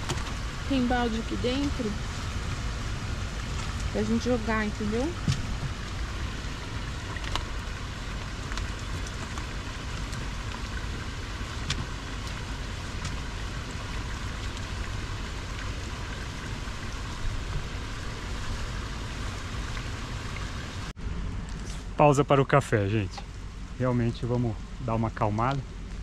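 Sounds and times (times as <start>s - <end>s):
steady low rumble: 0.0s - 26.0s
steady rain falling: 0.0s - 26.0s.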